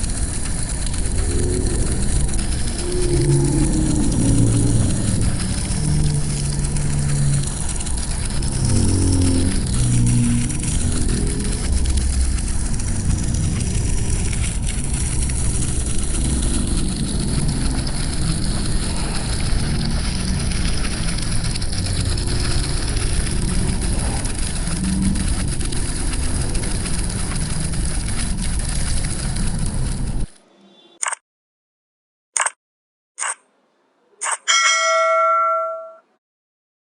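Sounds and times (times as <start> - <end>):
flames burning: 0.0 - 30.3.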